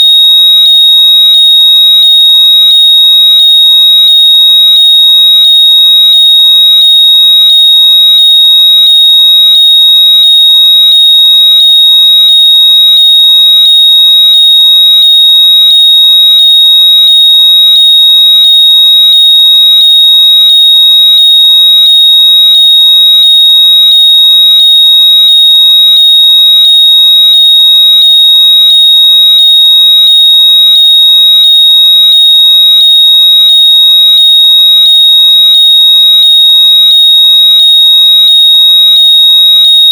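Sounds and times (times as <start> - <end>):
high-pitched pulsing electronic tone: 0.0 - 39.9.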